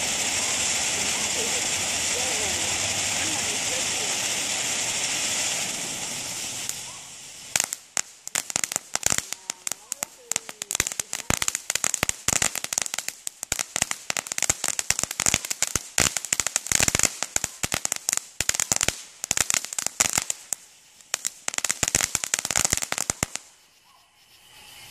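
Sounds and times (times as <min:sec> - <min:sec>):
firework fountain crackling and fizzing: 0:00.0 - 0:23.8.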